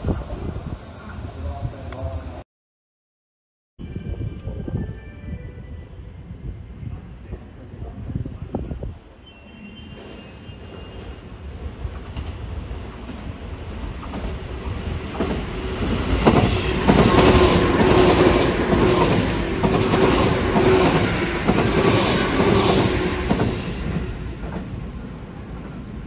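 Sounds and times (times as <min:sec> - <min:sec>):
train passing at speed: 0:03.8 - 0:26.0.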